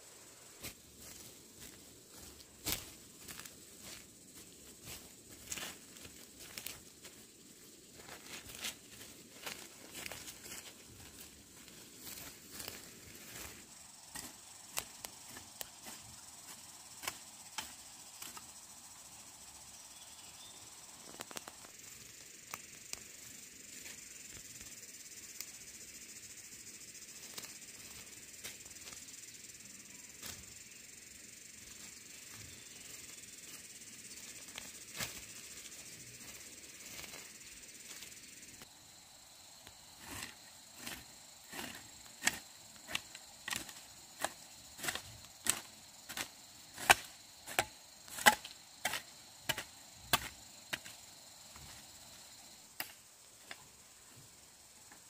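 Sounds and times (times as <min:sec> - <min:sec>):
insect chirring: 0:00.0 - 0:55.0.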